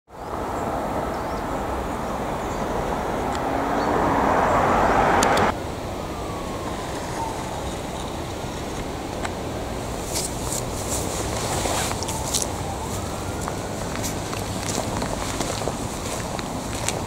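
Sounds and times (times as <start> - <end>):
steady traffic rumble: 0.1 - 17.0
vehicle passing: 0.2 - 17.0.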